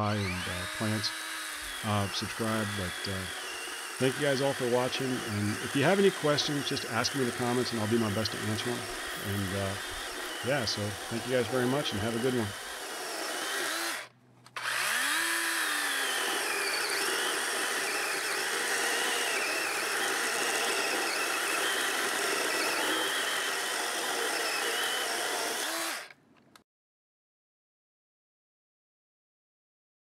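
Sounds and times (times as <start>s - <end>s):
electric chainsaw cutting log: 0.0s - 26.2s.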